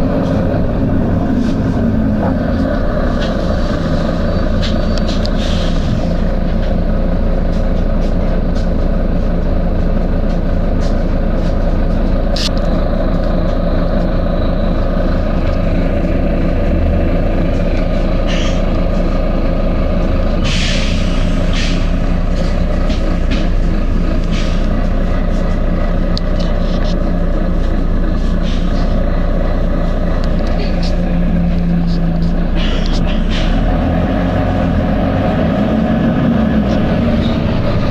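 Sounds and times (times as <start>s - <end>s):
bus diesel engine running: 0.0s - 37.9s.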